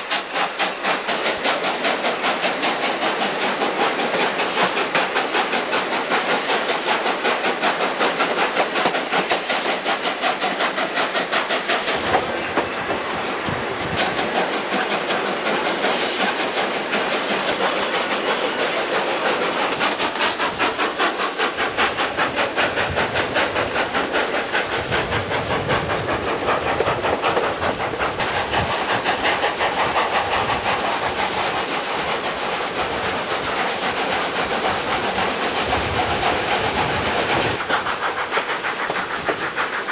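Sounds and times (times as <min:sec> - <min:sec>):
steam locomotive exhaust beating: 0:00.0 - 0:39.9
train wheels clattering on rails: 0:00.0 - 0:39.9.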